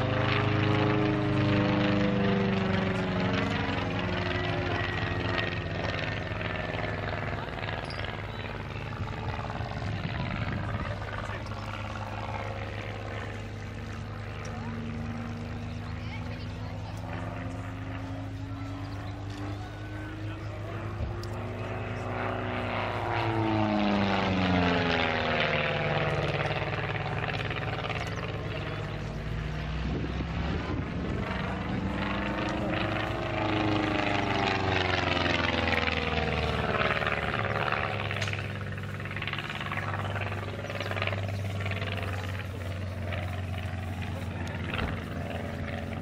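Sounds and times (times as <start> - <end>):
propeller aircraft engine: 0.0 - 46.0.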